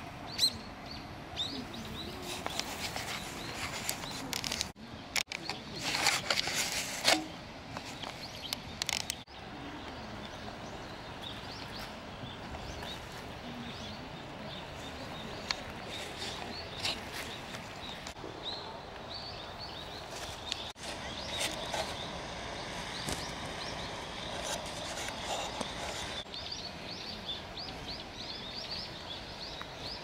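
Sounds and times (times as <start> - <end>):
outdoor background hiss: 0.0 - 30.0
small birds chirping: 0.2 - 30.0.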